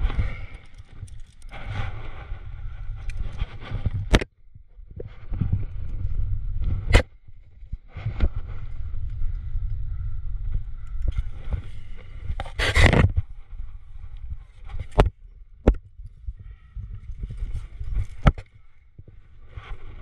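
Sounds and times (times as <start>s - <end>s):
microphone handling rumble: 0.0s - 20.0s.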